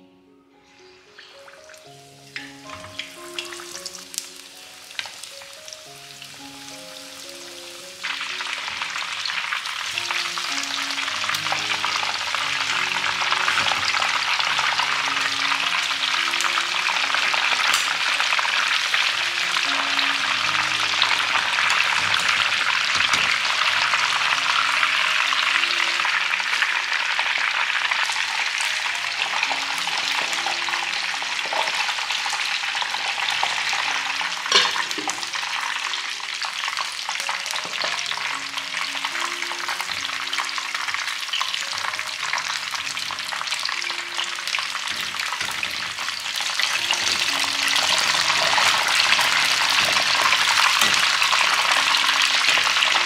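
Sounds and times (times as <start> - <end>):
chicken frying in hot oil: 1.2 - 53.0.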